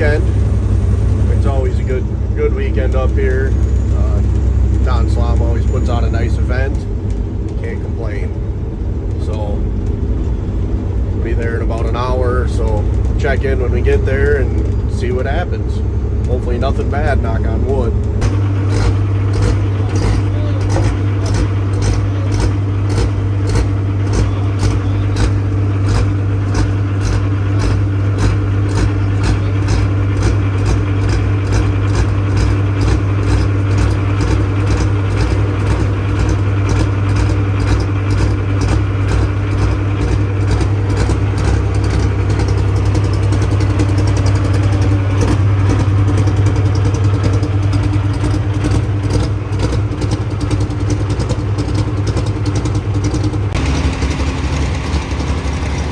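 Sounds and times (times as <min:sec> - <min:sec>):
sharp regular ticking: 0:00.0 - 0:55.9
truck diesel engine droning: 0:00.0 - 0:55.9.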